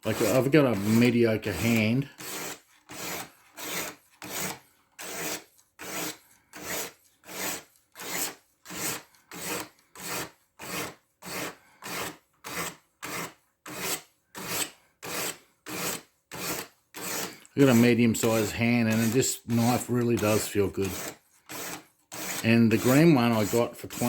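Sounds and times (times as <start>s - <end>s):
sharpening stone scraping blade: 0.1s - 19.8s, 20.8s - 24.0s.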